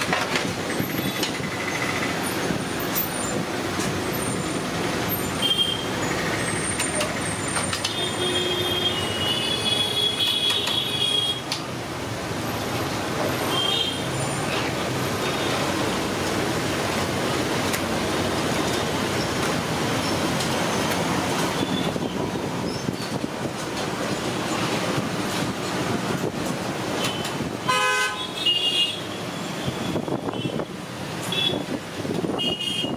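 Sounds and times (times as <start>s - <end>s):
street traffic: 0.0s - 32.9s.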